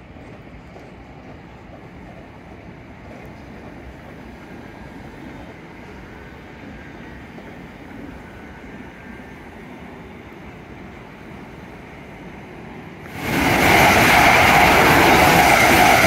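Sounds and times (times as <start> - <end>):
train rumbling along the track: 0.0 - 16.0.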